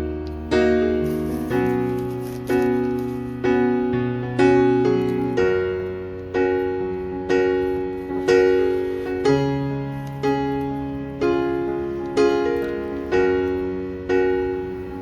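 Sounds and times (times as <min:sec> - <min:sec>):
soft piano slow chords: 0:00.0 - 0:15.0.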